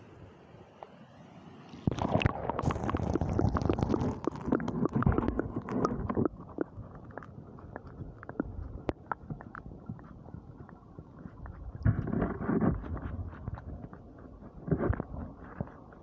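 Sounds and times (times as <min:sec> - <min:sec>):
underwater gurgling: 0:01.7 - 0:16.0
sharp underwater clicks: 0:01.9 - 0:16.0
underwater rumble: 0:01.9 - 0:16.0.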